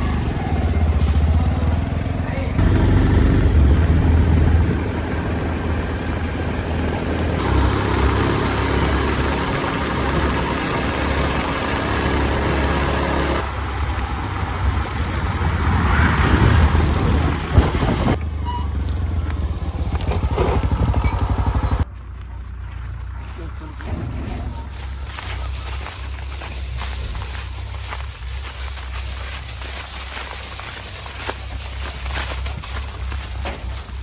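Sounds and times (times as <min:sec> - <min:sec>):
diesel machinery engines running: 0:00.0 - 0:34.0.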